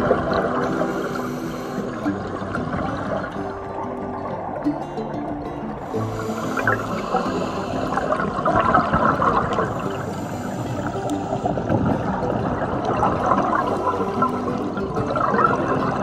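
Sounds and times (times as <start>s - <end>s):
underwater bubbling of exhaled breath: 0.0s - 16.0s.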